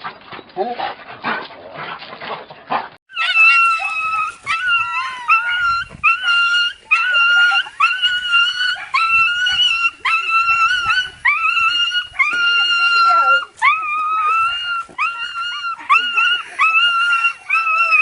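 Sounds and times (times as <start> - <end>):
dog whining: 3.1 - 18.0.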